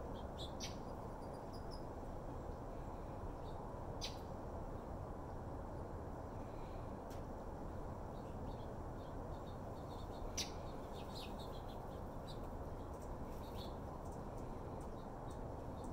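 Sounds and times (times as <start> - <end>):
small birds chirping: 0.0 - 15.9.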